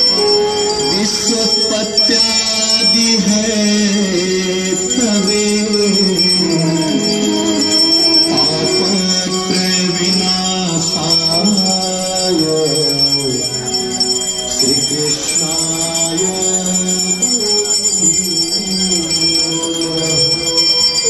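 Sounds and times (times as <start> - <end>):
bell ringing: 0.0 - 21.0
person singing devotional song: 0.0 - 21.0.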